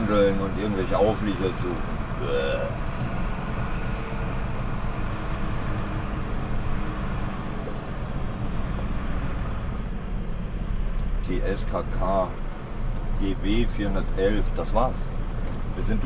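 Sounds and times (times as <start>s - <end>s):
cab rumbling: 0.0s - 16.0s
truck engine droning: 0.0s - 16.0s.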